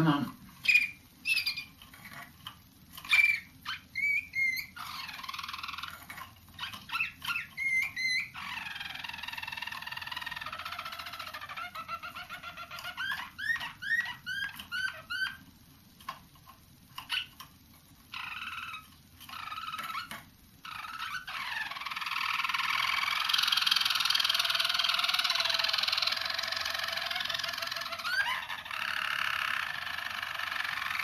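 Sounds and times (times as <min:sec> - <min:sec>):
canaries singing: 0:00.0 - 0:31.0.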